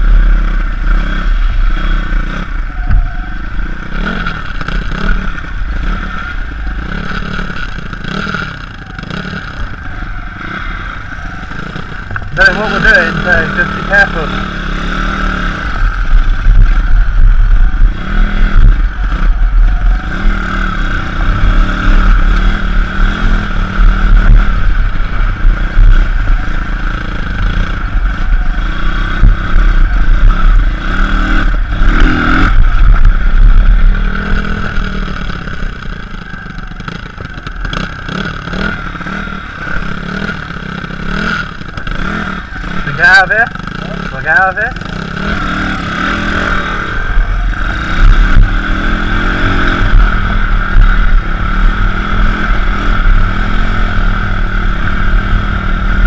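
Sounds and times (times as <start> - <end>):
motorbike engine under throttle: 0.0 - 56.0.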